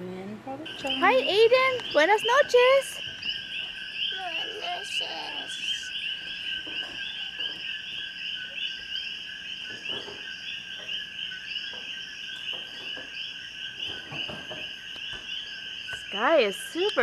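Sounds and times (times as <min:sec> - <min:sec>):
frogs chirping: 0:00.6 - 0:17.0
insects: 0:00.6 - 0:17.0.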